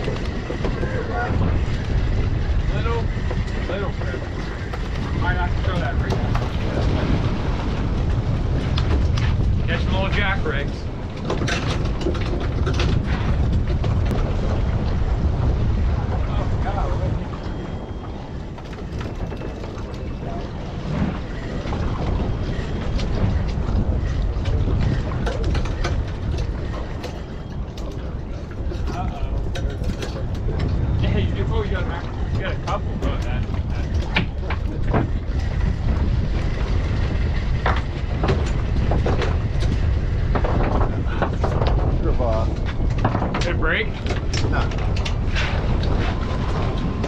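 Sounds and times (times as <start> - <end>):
boat engine rumble: 0.0 - 47.0
wind buffeting microphone: 0.0 - 47.0.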